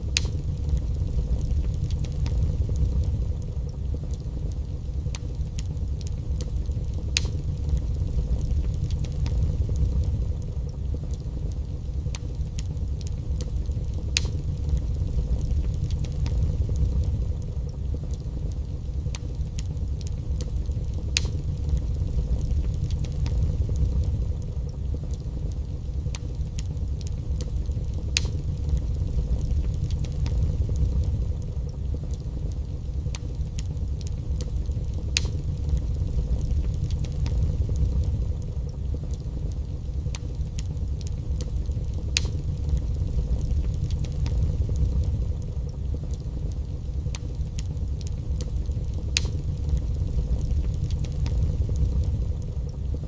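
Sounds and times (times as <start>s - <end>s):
fire crackling and popping: 0.0s - 53.0s
fire rumbling: 0.0s - 53.0s.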